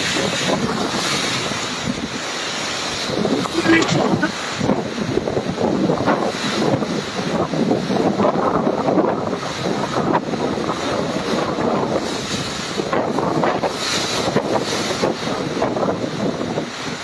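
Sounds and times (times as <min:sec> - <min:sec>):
heavy rain: 0:00.0 - 0:17.0
wind buffeting microphone: 0:00.0 - 0:17.0
wind gusting: 0:00.0 - 0:17.0.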